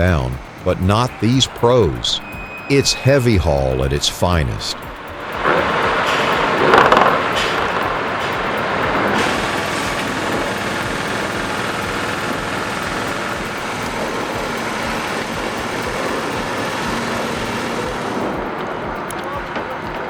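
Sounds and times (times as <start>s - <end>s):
constant hiss: 0.0s - 20.0s
truck engine running: 0.0s - 20.0s.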